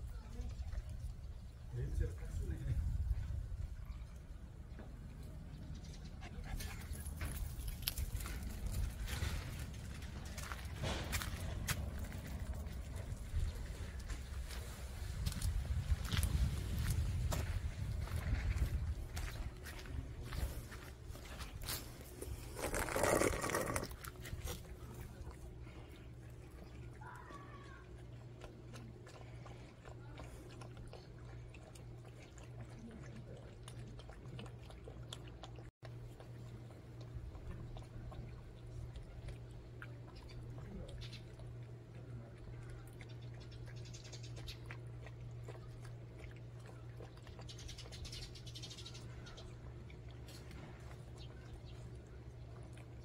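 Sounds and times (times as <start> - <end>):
puppies chewing and slurping: 0.0 - 53.0.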